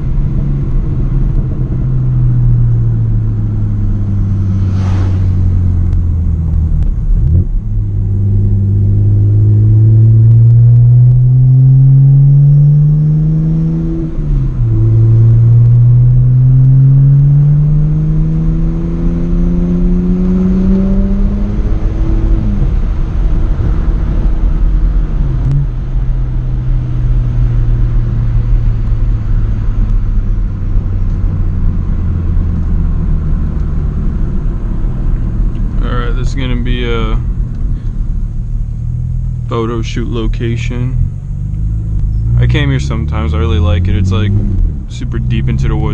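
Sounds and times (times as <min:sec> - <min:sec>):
car exhaust accelerating: 0:00.0 - 0:45.9.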